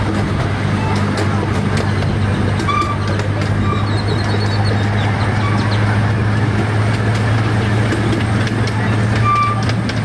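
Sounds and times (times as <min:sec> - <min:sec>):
miniature train engine drone: 0:00.0 - 0:10.0
wheel and rail rattle: 0:00.0 - 0:10.0.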